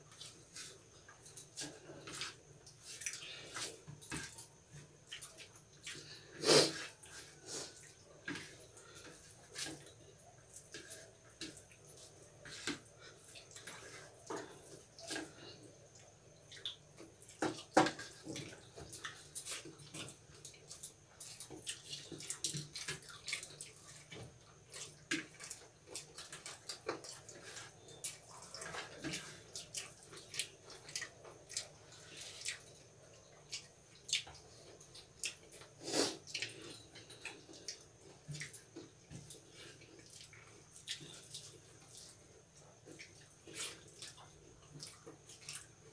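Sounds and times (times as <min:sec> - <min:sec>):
wet chewing and smacking: 0:00.1 - 0:06.2, 0:06.8 - 0:45.9.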